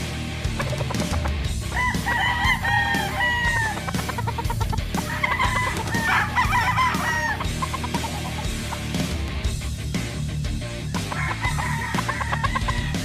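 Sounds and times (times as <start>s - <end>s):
background music: 0.0s - 13.0s
roosters crowing: 0.6s - 9.0s, 10.9s - 13.0s.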